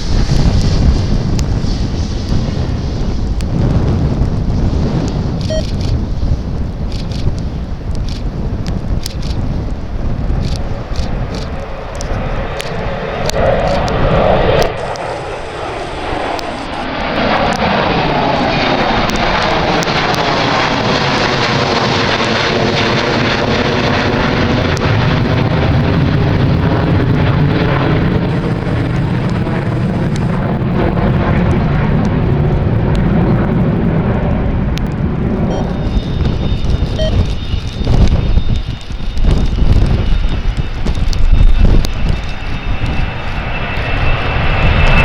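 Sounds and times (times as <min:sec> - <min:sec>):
deep rumble: 0:00.0 - 0:45.0
jet engines passing: 0:00.0 - 0:45.0.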